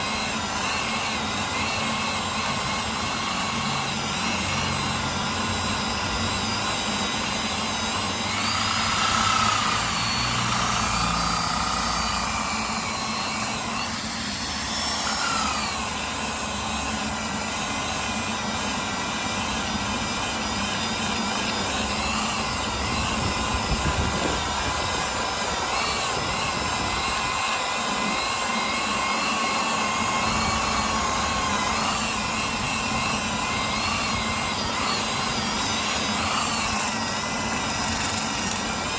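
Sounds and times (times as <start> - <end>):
disc grinder whining: 0.0 - 38.9.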